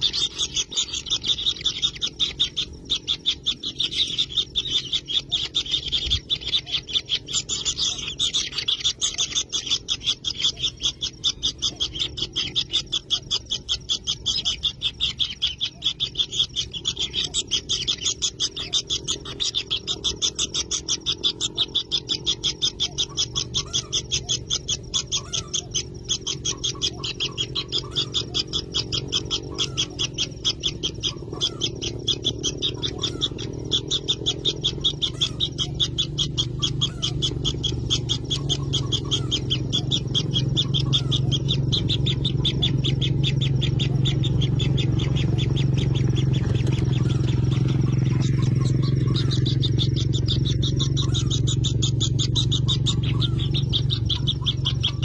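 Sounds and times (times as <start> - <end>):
nestlings chittering: 0.0 - 55.0
steady low hum: 0.0 - 55.0.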